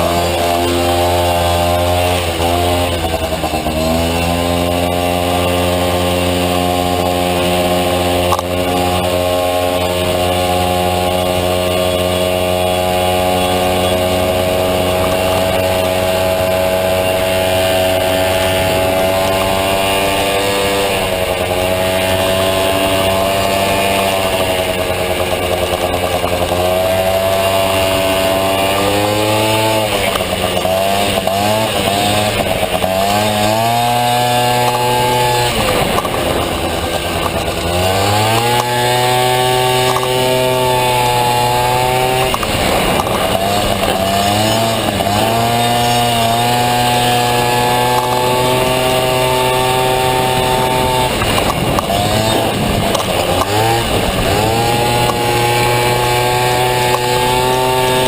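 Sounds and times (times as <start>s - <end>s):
scooter engine revving high: 0.0s - 58.0s.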